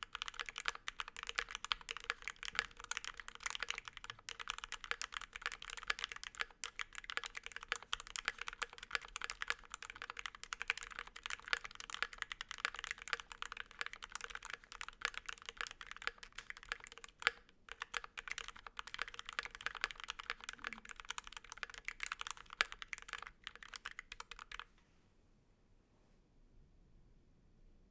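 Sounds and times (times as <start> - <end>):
fast mechanical keyboard typing: 0.0 - 24.6.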